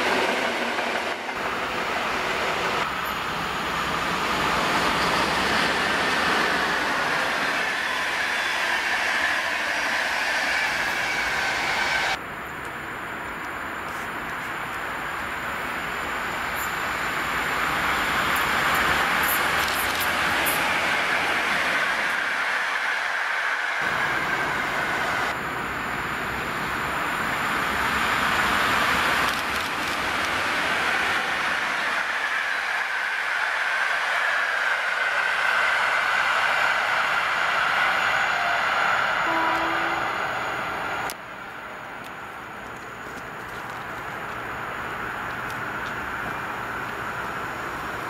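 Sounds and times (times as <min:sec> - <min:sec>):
train wheels rushing on rails: 0:00.0 - 0:48.0.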